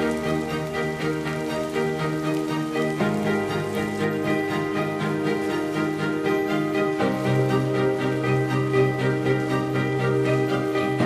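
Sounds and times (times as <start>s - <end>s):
music of sustained chords: 0.0s - 11.0s
steady rain hiss: 0.0s - 11.0s.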